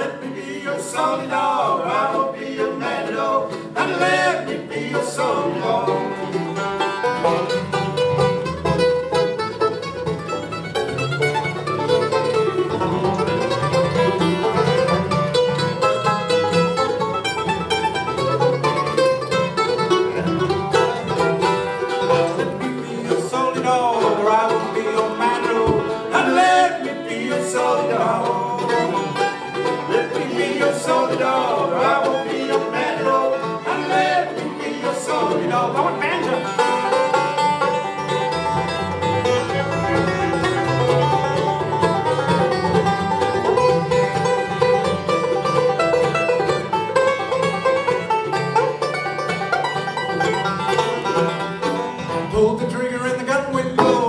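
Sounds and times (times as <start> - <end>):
acoustic guitar: 0.0 - 54.0
banjo rolls: 0.0 - 54.0
fiddle: 0.0 - 54.0
mandolin: 0.0 - 54.0.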